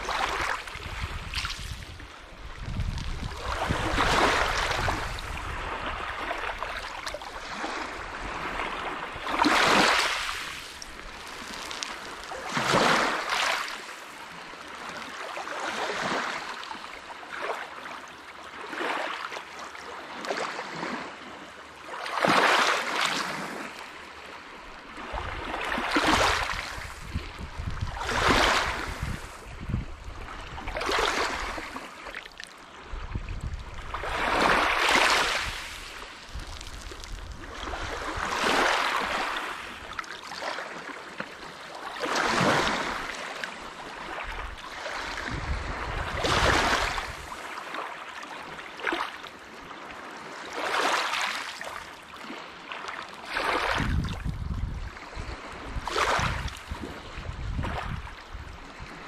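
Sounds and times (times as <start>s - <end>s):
waves crashing on shore: 0.0s - 18.0s, 18.6s - 23.9s, 24.6s - 59.0s.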